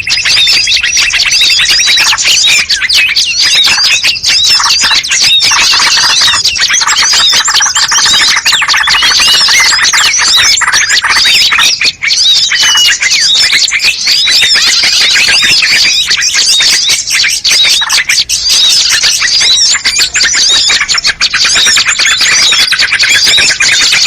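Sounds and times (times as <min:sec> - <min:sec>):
songbirds chirping and calling: 0:00.0 - 0:24.0.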